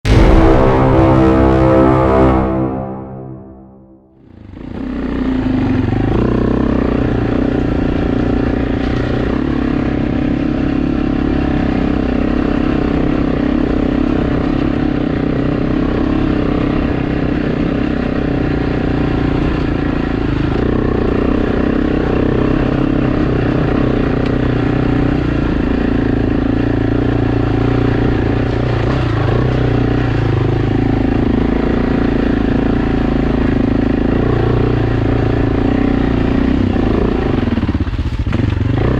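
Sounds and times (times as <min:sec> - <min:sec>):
motorcycle engine running: 0:04.3 - 0:38.9.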